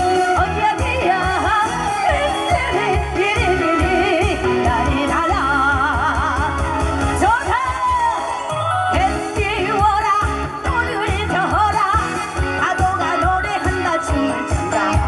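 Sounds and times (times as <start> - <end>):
amplified backing music: 0.0 - 15.0
woman singing into microphone: 0.0 - 15.0.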